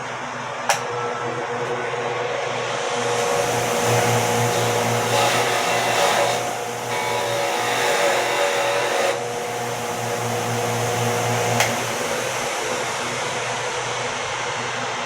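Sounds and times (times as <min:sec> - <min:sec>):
machine tool motor humming and whining: 0:00.0 - 0:15.0.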